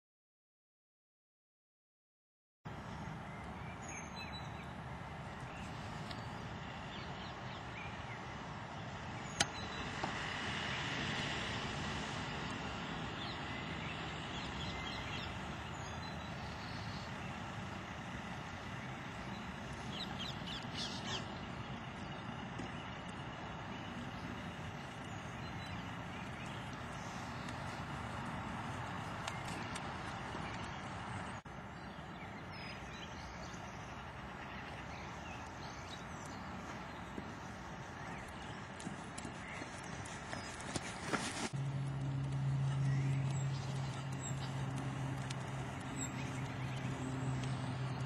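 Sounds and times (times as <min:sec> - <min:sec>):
outdoor background rumble: 0:02.7 - 0:48.0.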